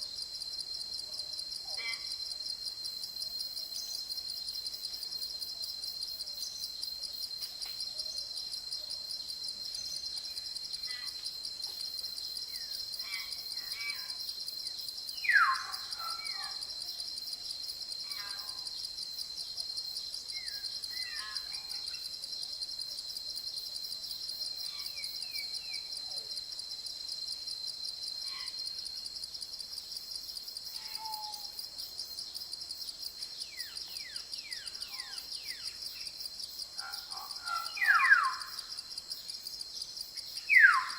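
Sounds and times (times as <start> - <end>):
insects chirping chorus: 0.0 - 40.9.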